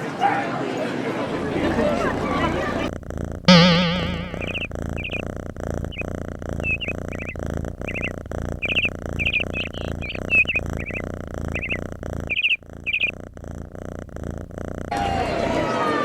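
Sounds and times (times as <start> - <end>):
small bird chirping: 1.3 - 15.7.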